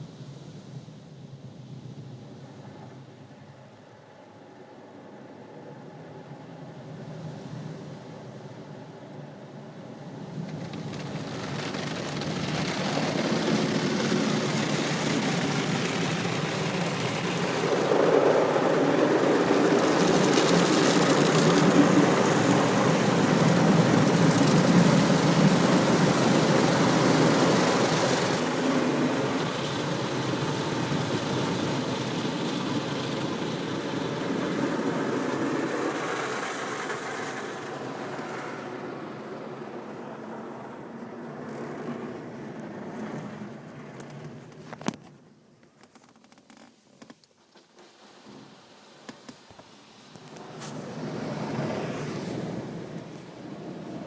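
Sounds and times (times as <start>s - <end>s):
car wash rushing noise: 4.5s - 44.7s, 47.7s - 54.0s.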